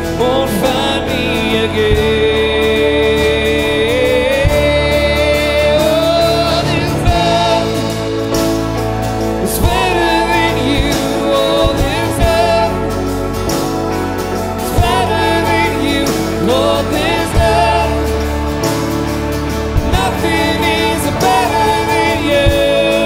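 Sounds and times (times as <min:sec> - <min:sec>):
man singing: 0:00.0 - 0:23.0
worship band playing: 0:00.0 - 0:23.0.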